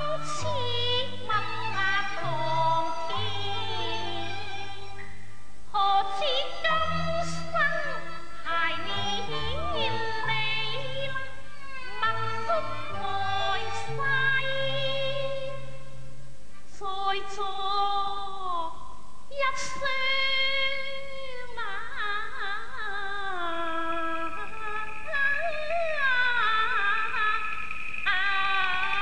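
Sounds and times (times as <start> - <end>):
woman singing opera: 0.0 - 5.1, 5.7 - 15.9, 16.7 - 29.0.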